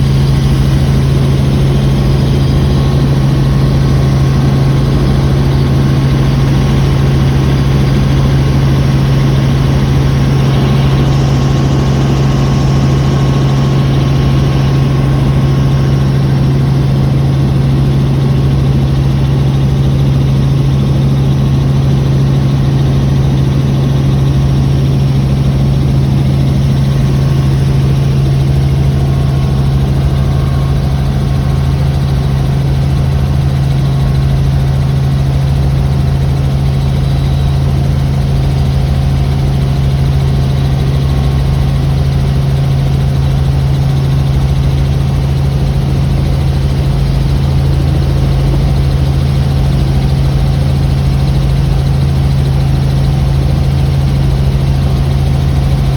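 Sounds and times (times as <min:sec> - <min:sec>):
helicopter engine and rotor drone: 0:00.0 - 0:55.9.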